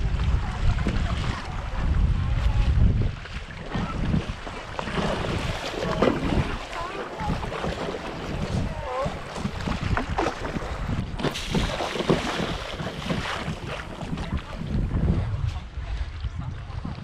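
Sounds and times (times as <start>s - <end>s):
paddle strokes splashing: 0.0s - 16.2s
water sloshing against paddleboard: 0.0s - 17.0s
wind buffeting microphone: 0.0s - 17.0s.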